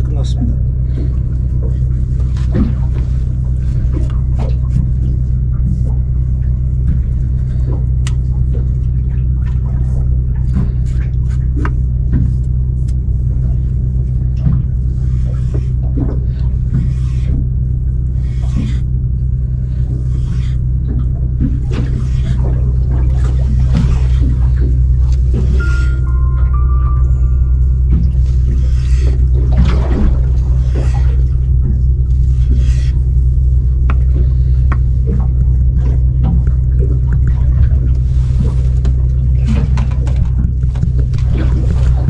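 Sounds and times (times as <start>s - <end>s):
boat engine humming: 0.0s - 42.0s.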